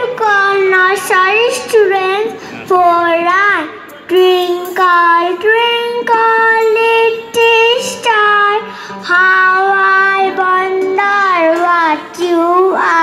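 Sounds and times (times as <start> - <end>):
girl singing through microphone: 0.0 - 13.0.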